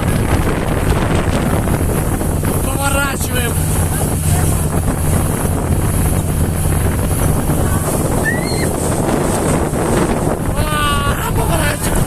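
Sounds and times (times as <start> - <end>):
motorboat engine droning: 0.0 - 12.0
water rushing past hull: 0.0 - 12.0
wind buffeting microphone: 0.0 - 12.0.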